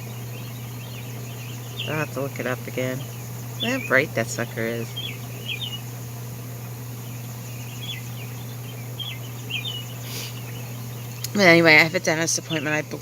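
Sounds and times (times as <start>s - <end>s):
steady low hum: 0.0s - 13.0s
wild birds chirping: 0.0s - 13.0s.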